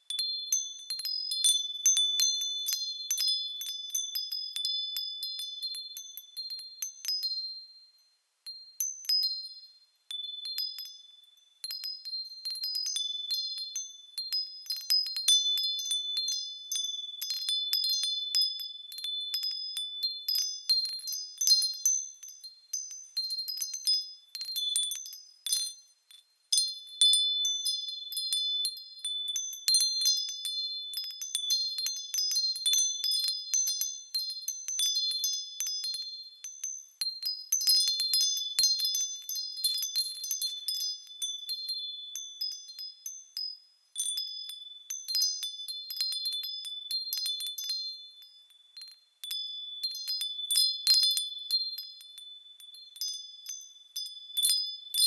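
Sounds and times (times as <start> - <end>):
small bells tinkling: 0.0 - 55.0.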